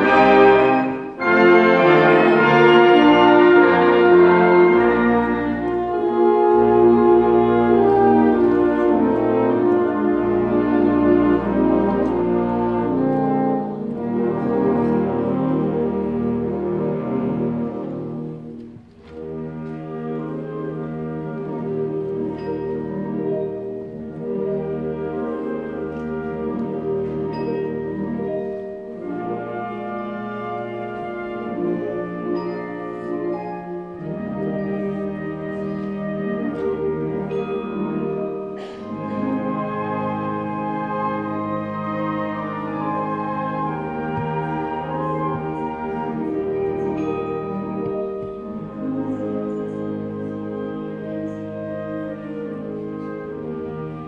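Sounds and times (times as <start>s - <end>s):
wind orchestra playing carol: 0.0s - 54.0s.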